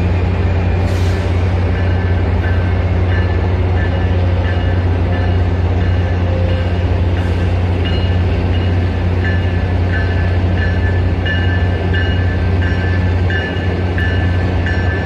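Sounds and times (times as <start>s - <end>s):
train low hum: 0.0s - 15.0s.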